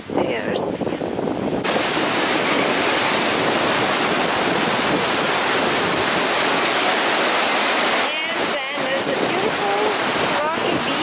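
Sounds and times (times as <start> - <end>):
ocean surf breaking on rocks: 0.6 - 11.0.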